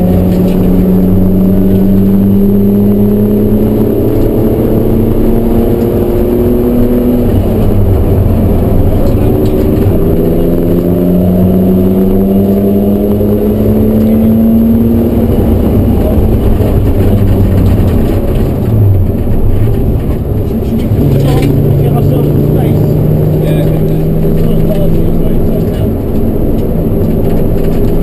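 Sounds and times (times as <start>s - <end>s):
car engine revving: 0.0s - 28.0s
road and tyre rumble: 0.0s - 28.0s.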